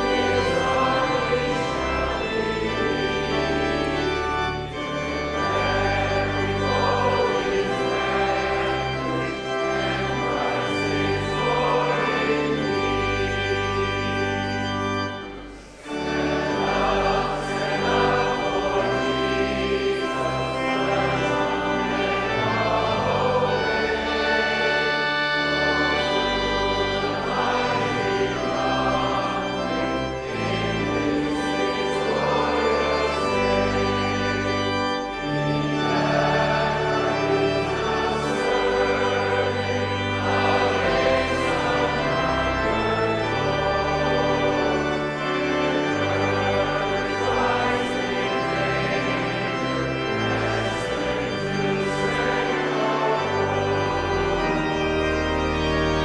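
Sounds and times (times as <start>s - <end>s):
voices singing: 0.0s - 13.8s, 15.4s - 34.4s, 35.7s - 54.6s
organ playing chords: 0.0s - 56.0s.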